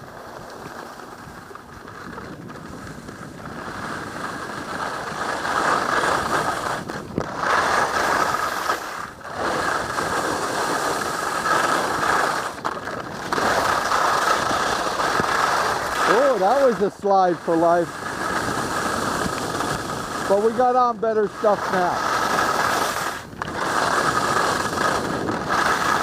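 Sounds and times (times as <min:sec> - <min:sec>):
skis scraping on hard snow: 0:00.0 - 0:26.0.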